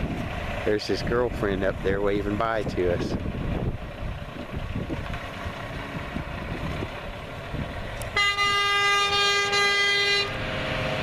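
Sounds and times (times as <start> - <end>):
diesel truck engine rumbling: 0.0 - 11.0.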